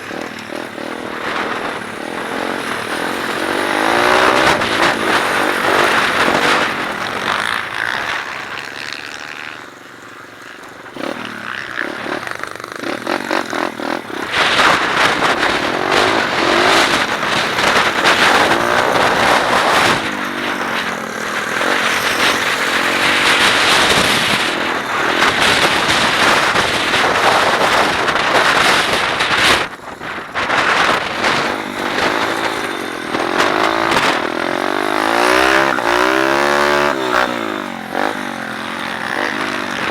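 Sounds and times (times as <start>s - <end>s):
wind noise on microphone: 0.0s - 9.2s, 10.9s - 39.9s
motorcycle engine revving: 0.0s - 39.9s.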